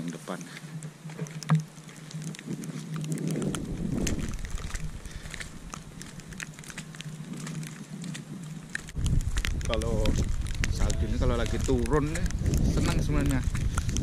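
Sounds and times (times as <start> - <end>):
footsteps crunching on snow: 0.0 - 14.0
wind buffeting microphone: 0.0 - 14.0.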